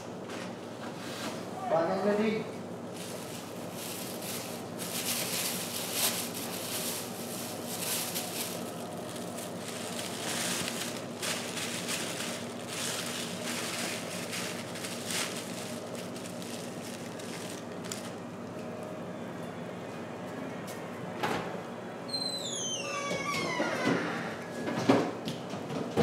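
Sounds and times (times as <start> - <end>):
steady low hum: 0.0 - 22.1.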